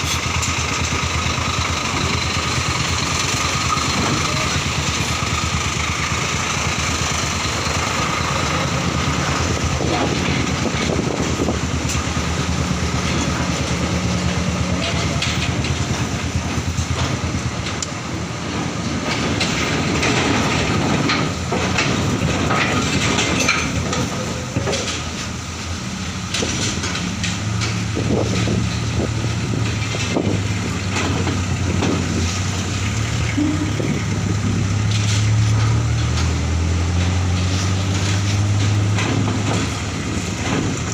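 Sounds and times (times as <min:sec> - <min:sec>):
knocks and clatter: 0:00.0 - 0:40.9
truck diesel engines running: 0:00.0 - 0:40.9.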